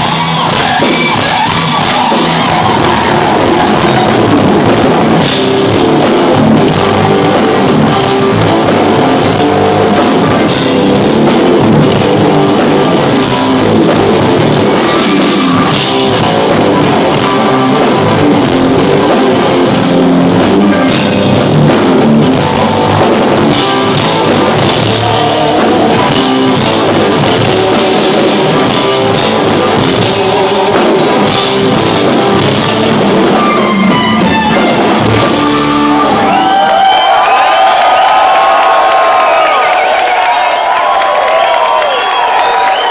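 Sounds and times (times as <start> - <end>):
live instrumental rock: 0.0 - 42.9.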